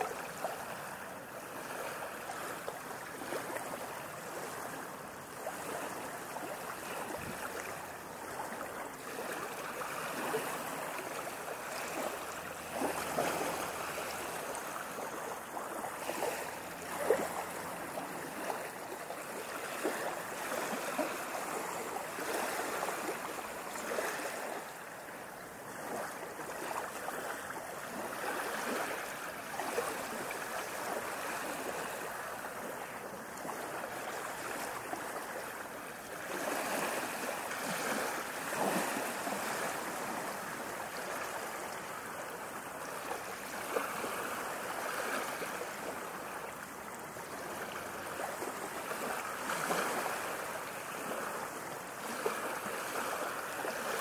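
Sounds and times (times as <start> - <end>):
ocean waves washing: 0.0 - 54.0.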